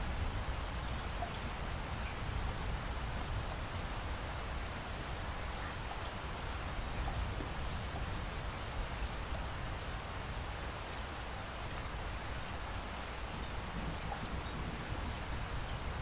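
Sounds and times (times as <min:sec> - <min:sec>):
rain hissing: 0:00.0 - 0:16.0
separate raindrops: 0:00.0 - 0:16.0.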